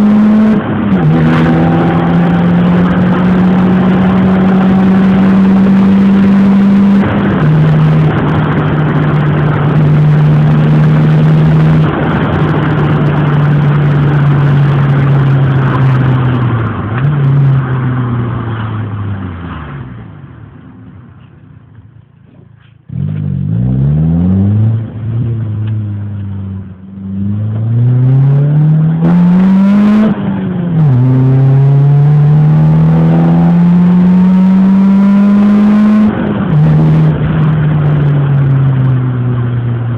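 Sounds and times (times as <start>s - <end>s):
car engine accelerating through gears: 0.0s - 21.3s, 22.9s - 39.9s.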